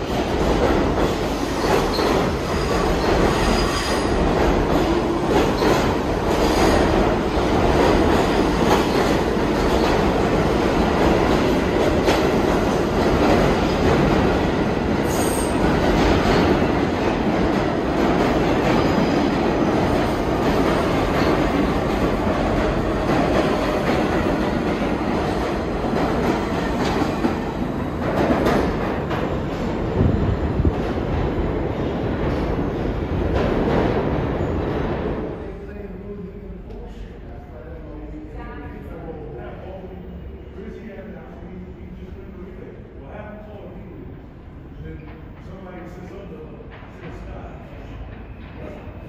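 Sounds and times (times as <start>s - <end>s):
subway train wheels on rail: 0.0s - 49.0s.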